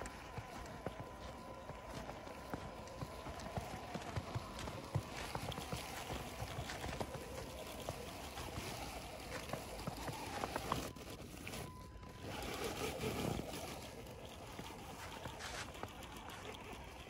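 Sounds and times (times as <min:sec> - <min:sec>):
small electric motor whine: 0:00.0 - 0:17.0
tyres crunching snow: 0:00.0 - 0:17.0.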